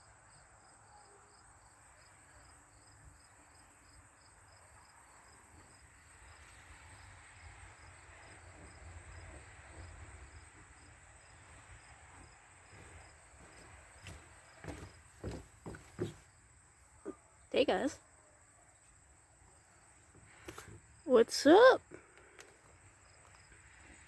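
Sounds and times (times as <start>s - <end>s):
crickets trilling: 0.3s - 24.0s.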